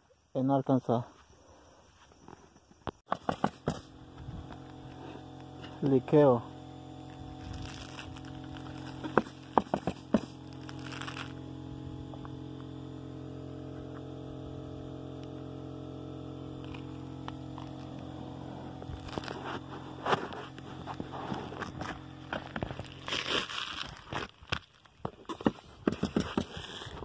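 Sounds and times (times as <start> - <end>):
steady hum: 1.2 - 27.0.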